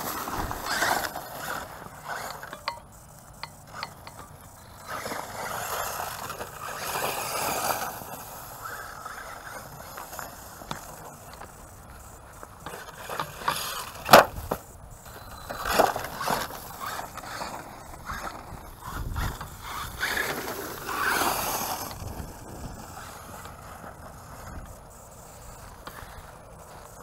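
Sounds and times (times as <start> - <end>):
rc truck driving over dirt: 0.0 - 27.0
tyres crunching and scraping: 0.0 - 27.0.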